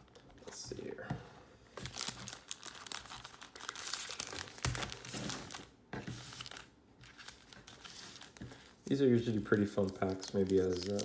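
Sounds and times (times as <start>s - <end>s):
wrappers crinkling and tearing: 1.8s - 11.0s.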